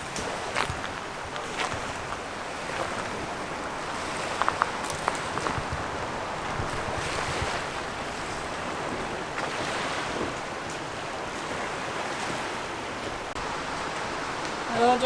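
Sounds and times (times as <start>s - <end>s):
wind on microphone: 0.0s - 14.8s
waves washing on a beach: 0.0s - 15.0s.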